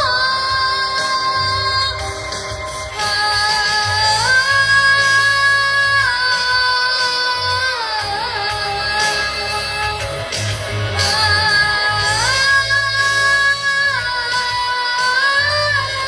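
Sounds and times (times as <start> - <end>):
backing track with pulsing bass: 0.0 - 16.0.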